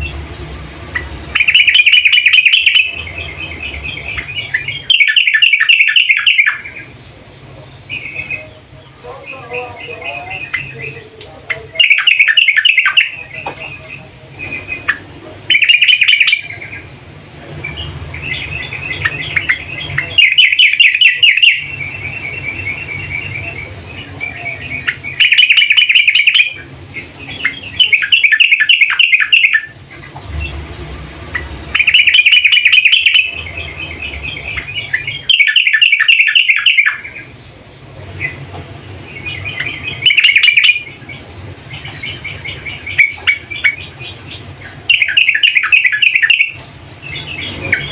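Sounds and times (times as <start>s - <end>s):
bulbul chattering call: 0.0s - 47.9s.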